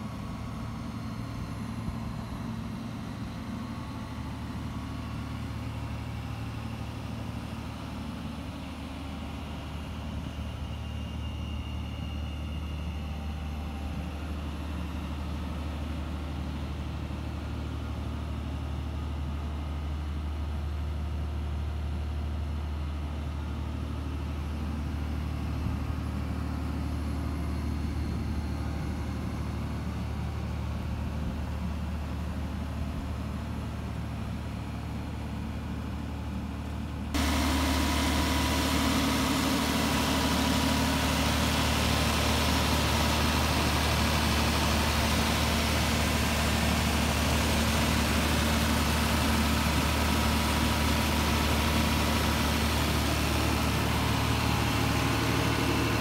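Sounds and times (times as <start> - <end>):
diesel generator running: 0.0 - 56.0.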